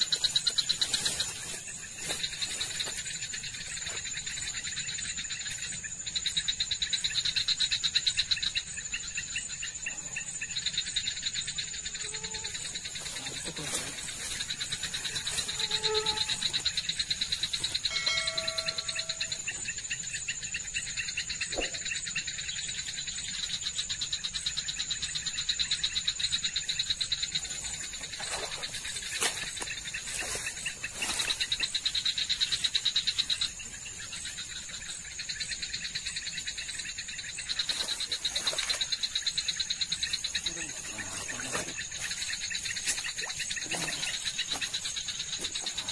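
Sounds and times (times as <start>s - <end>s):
insects and frogs trilling: 0.0s - 45.9s.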